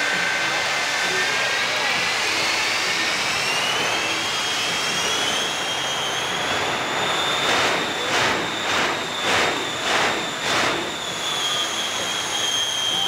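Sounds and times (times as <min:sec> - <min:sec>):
jet engines whining: 0:00.0 - 0:13.0
pulsing jet roar: 0:00.0 - 0:13.0.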